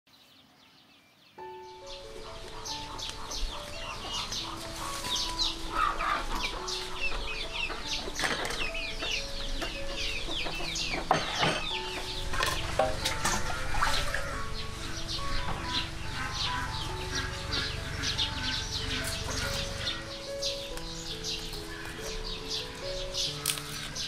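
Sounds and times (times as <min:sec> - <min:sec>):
small birds chirping: 0:00.1 - 0:24.0
soft instrumental melody: 0:01.3 - 0:24.0
chickens clucking: 0:01.8 - 0:24.0.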